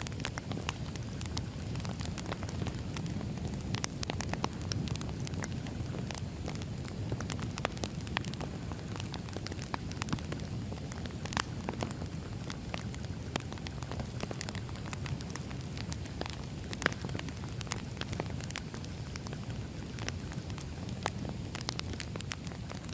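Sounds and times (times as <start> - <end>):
firewood crackling: 0.0 - 22.9
low fire rumble: 0.0 - 22.9.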